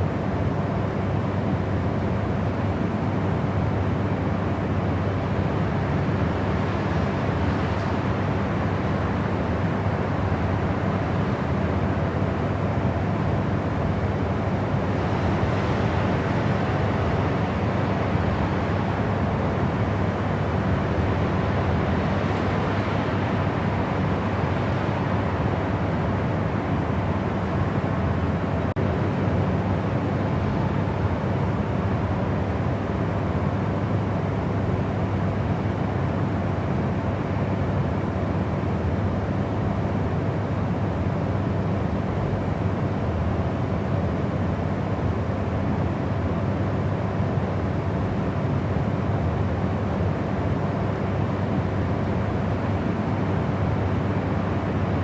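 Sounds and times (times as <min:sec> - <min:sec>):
white noise: 0:00.0 - 0:55.0.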